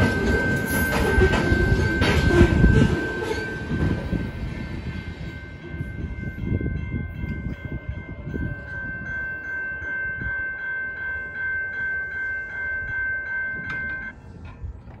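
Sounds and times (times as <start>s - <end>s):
railroad crossing bell ringing: 0.0s - 14.4s.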